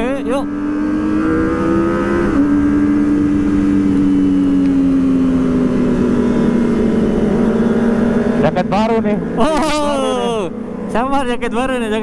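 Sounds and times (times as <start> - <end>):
motorcycle engine revving: 0.0 - 12.0
wind and road noise: 0.0 - 12.0.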